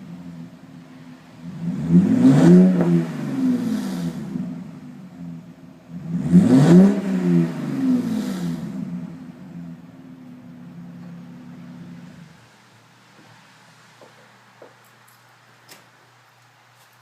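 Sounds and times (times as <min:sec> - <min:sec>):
car engine revving and idling: 0:00.0 - 0:14.6.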